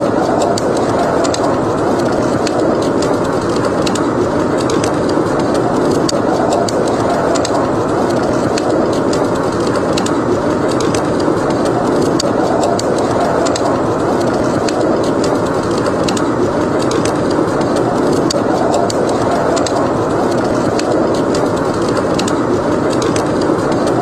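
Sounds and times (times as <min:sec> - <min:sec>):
blizzard wind: 0:00.0 - 0:24.0
fire crackling and popping: 0:00.0 - 0:24.0.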